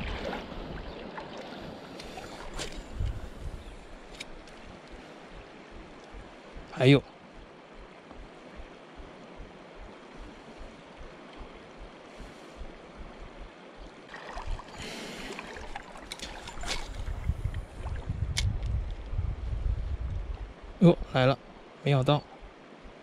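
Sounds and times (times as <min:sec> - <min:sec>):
shallow river flowing: 0:00.0 - 0:18.2, 0:20.5 - 0:23.0.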